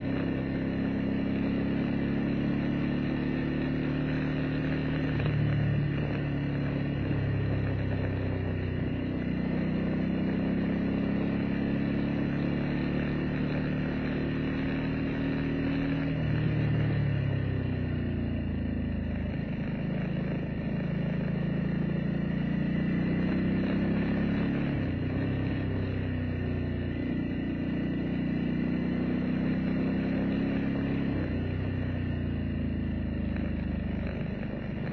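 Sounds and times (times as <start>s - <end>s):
vehicle engine running: 0.0s - 34.9s.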